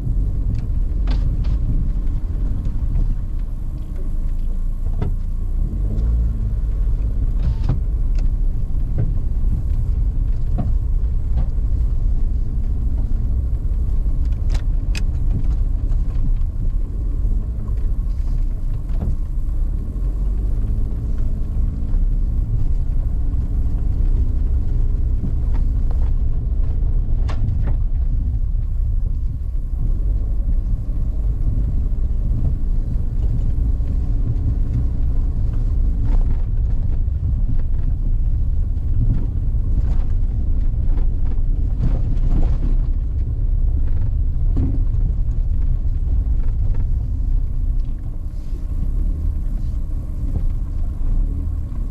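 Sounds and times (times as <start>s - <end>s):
car engine and tyres rumbling: 0.0s - 51.9s.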